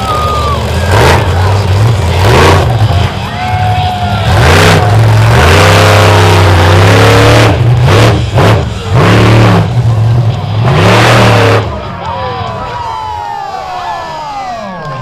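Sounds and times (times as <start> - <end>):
truck engine revving hard: 0.0 - 12.6.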